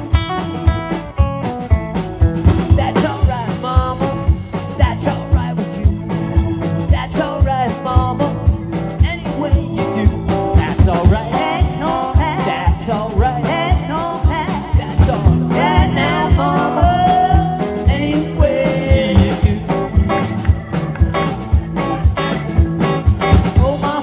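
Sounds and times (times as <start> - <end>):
bass guitar: 0.0 - 24.0
drum kit: 0.0 - 24.0
electric guitar: 0.0 - 24.0
steady kick drum beat: 0.0 - 24.0.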